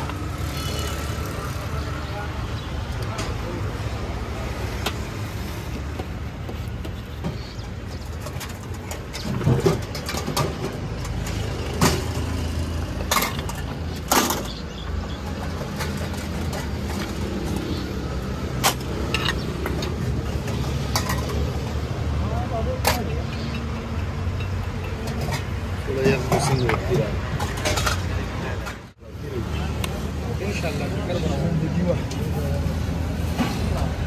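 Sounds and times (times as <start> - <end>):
traffic rumble: 0.0 - 34.0.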